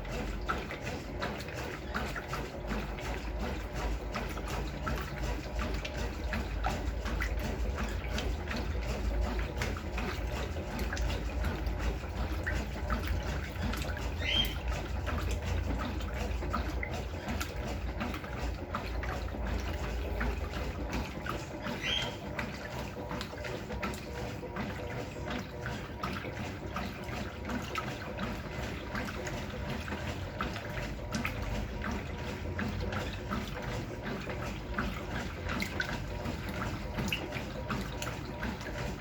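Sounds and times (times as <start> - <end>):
water dripping: 0.0 - 39.0
water trickling and splashing: 0.0 - 39.0.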